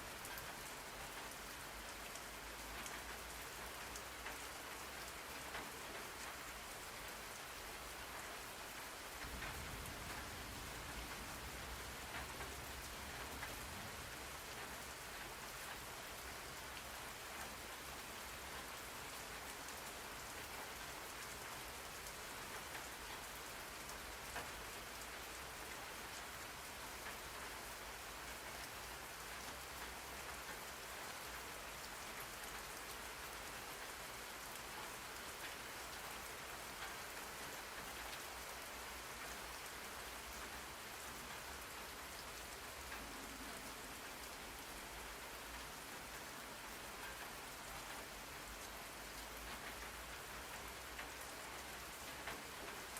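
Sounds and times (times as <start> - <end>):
rain falling on a surface: 0.0 - 52.9.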